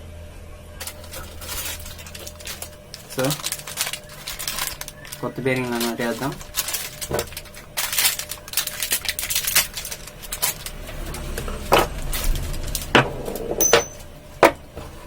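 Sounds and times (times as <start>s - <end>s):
small metal parts clattering: 0.8s - 11.0s, 11.7s - 14.1s.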